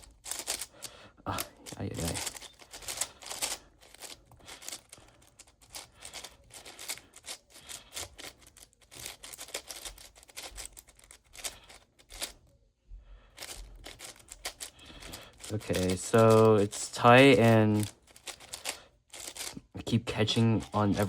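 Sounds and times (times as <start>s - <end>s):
speed cube plastic clicks: 0.0s - 12.4s, 13.4s - 19.6s.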